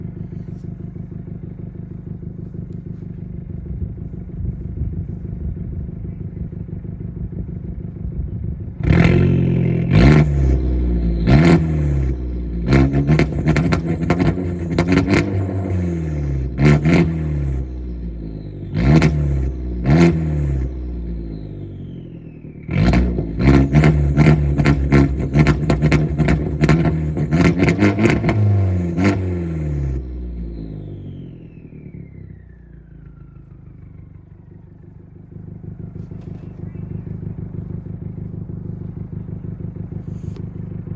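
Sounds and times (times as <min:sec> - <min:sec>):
car exhaust idling and revving: 0:00.0 - 0:40.9.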